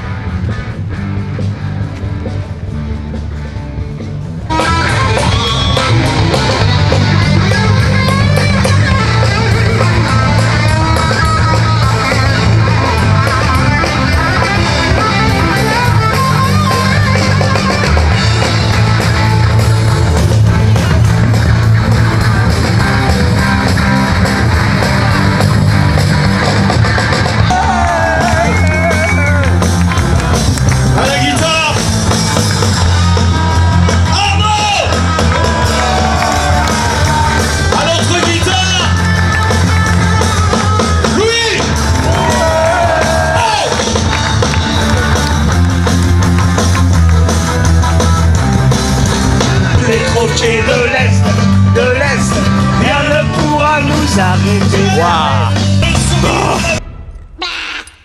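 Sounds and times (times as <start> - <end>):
rock music: 0.0 - 58.0.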